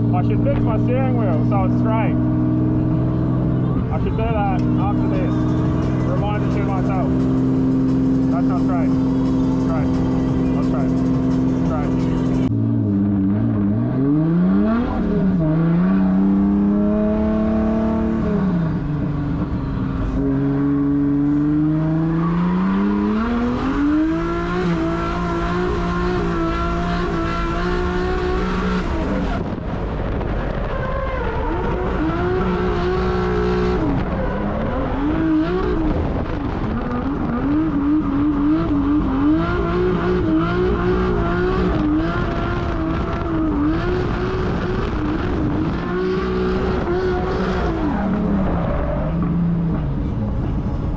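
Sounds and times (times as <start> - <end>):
car engine revving hard: 0.0 - 50.8.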